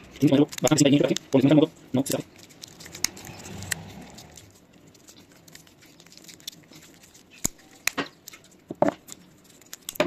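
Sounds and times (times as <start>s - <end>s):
soft plastic rustling: 0.0s - 10.0s.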